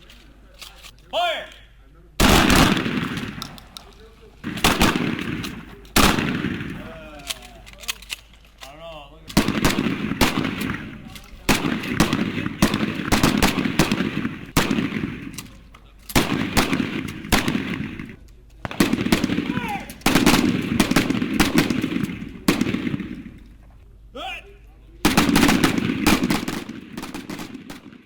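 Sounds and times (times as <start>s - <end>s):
shotguns firing with echo: 2.2s - 8.2s, 9.3s - 23.6s, 25.0s - 28.0s.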